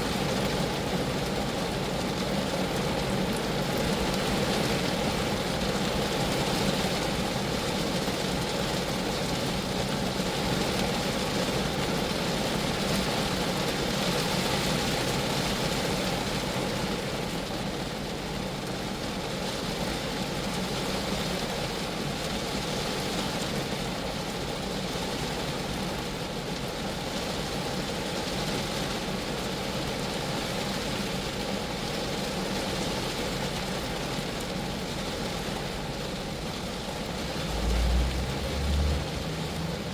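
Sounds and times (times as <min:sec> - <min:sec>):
rain pattering on a car: 0:00.0 - 0:39.9.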